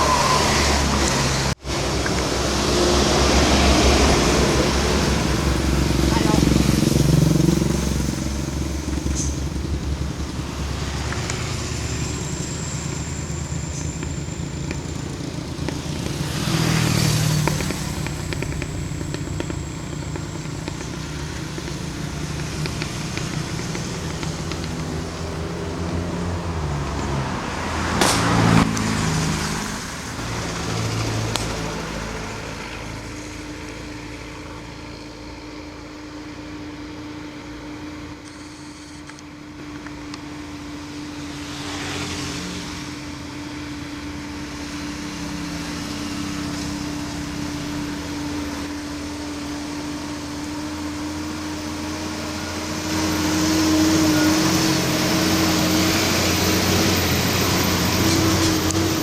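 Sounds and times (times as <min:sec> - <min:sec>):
vehicle passing close: 0:00.0 - 0:36.4, 0:40.3 - 0:59.0
vehicle engines running uphill: 0:00.0 - 0:59.0.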